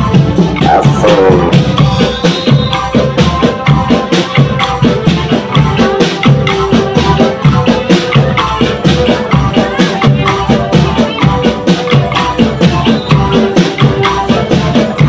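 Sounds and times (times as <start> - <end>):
drums and hand percussion: 0.0 - 15.0.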